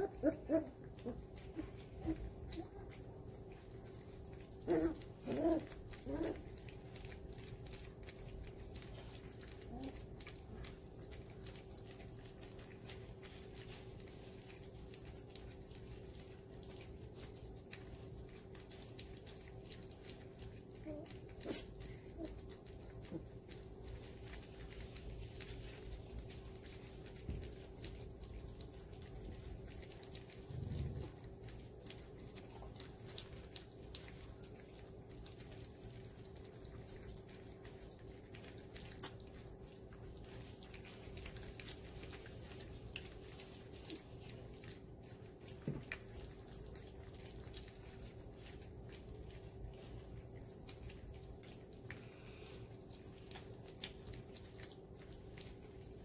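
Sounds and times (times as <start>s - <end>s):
puppies lapping food: 0.0s - 56.0s
steady low hum: 0.0s - 56.0s.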